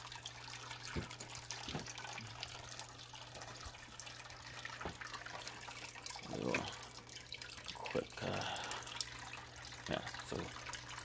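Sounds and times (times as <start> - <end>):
low steady hum: 0.0 - 11.0
water trickling into tank: 0.0 - 11.0.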